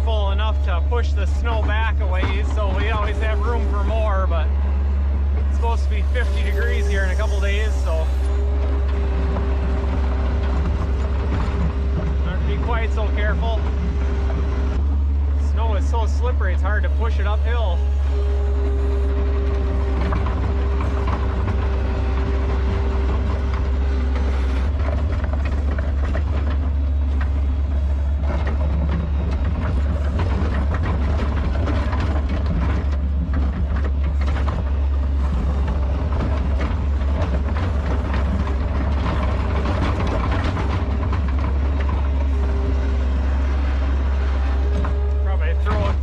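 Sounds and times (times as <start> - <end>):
diesel engine rumbling with whine: 0.0 - 46.0.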